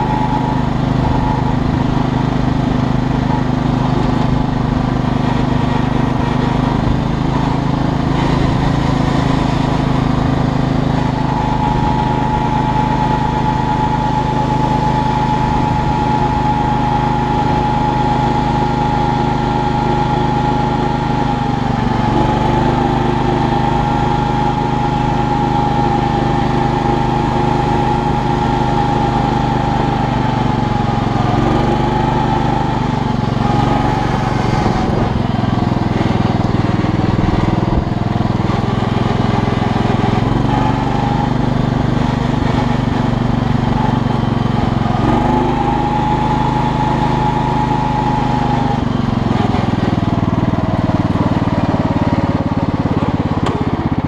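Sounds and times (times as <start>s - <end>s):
high whine: 0.0s - 48.9s
lawn tractor engine running: 0.0s - 54.0s.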